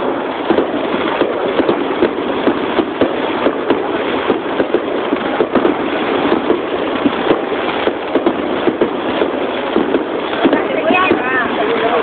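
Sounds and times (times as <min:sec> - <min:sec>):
fireworks bursting with sharp bangs: 0:00.0 - 0:12.0
fireworks crackling: 0:00.0 - 0:12.0.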